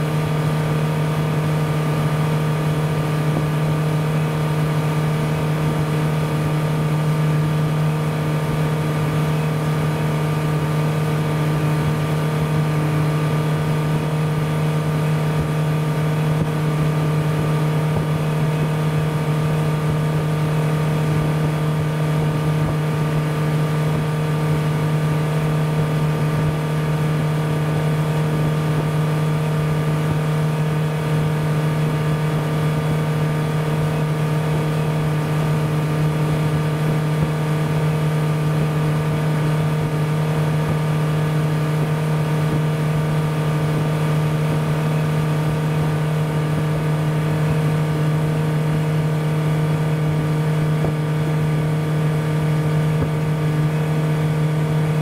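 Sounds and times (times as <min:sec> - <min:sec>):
motor boat engine droning: 0:00.0 - 0:55.0.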